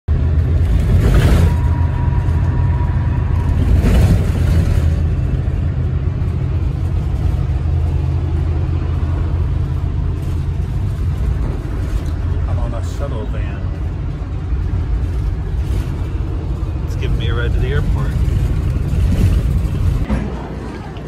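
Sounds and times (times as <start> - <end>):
road and engine rumble in van: 0.0 - 21.0.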